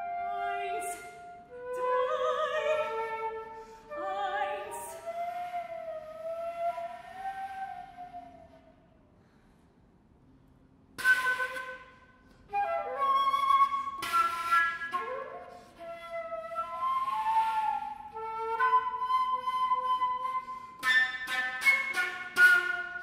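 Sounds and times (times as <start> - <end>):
solo flute playing: 0.0 - 8.8, 11.0 - 23.0.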